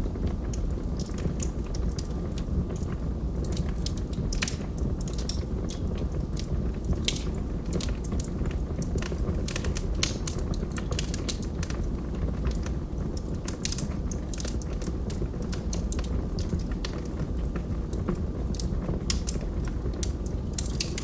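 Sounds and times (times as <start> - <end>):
fire burning: 0.0 - 21.0
logs crackling and popping: 0.1 - 21.0.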